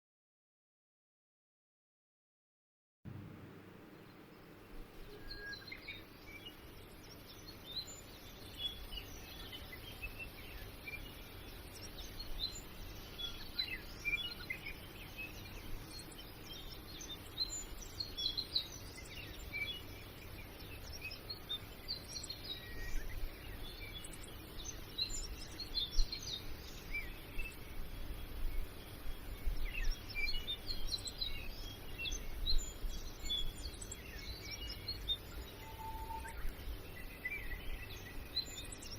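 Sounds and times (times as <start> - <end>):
birds chirping: 3.1 - 38.9.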